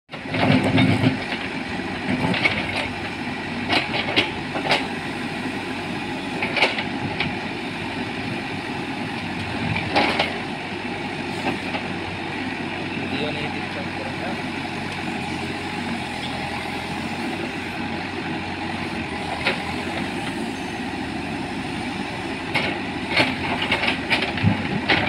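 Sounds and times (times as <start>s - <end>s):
diesel engine running: 0.1s - 25.0s.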